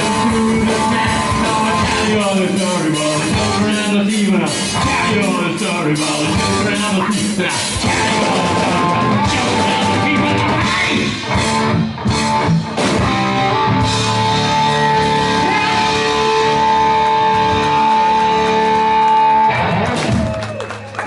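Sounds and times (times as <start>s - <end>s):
guitar rock music: 0.0s - 20.4s.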